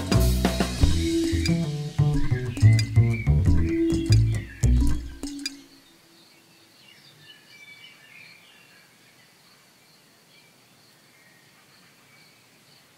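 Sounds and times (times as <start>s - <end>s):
soft bird chirps: 0.9s - 12.9s.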